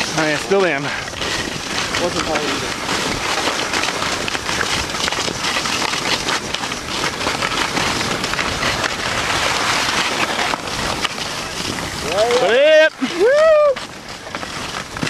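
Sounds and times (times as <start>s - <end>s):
skis scraping over snow: 0.0s - 15.0s
wind noise on microphone: 0.0s - 15.0s.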